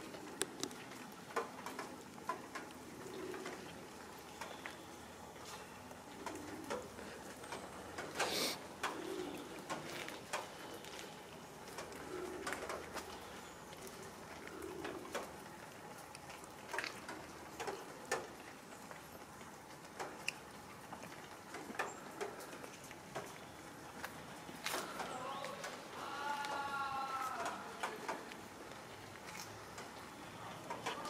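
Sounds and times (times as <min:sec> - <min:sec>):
cats chewing wet food: 0:00.1 - 0:31.0.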